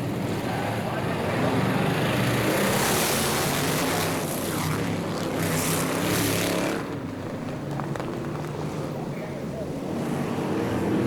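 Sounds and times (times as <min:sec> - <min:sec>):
race car engines at full throttle: 0:00.0 - 0:11.0.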